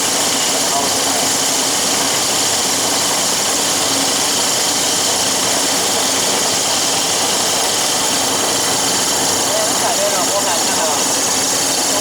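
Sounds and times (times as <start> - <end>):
machine running with hiss: 0.0 - 12.0.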